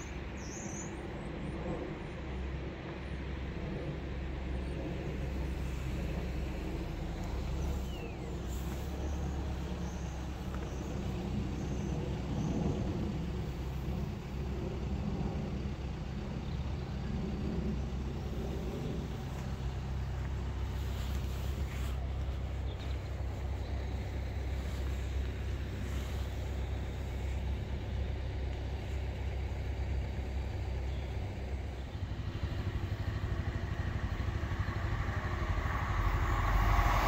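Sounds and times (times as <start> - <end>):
low rumble of road vehicles: 0.0 - 37.0.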